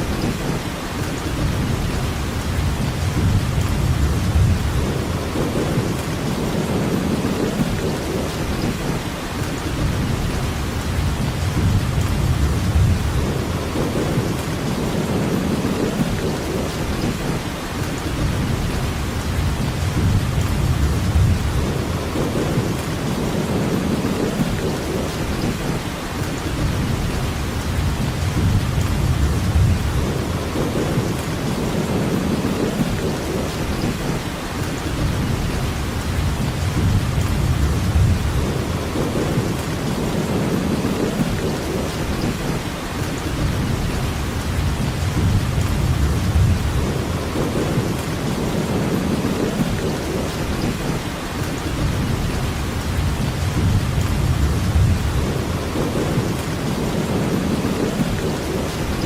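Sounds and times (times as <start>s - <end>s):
steady rain: 0.0s - 59.0s
rolling thunder: 0.1s - 59.0s.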